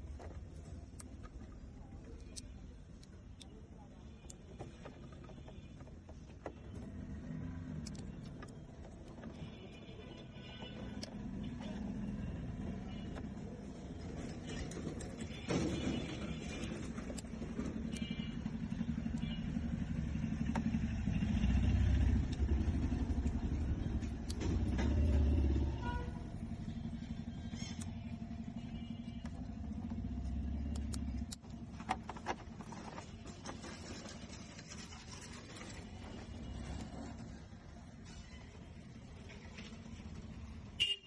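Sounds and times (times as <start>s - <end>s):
motor vehicle rumble: 0.0s - 40.9s.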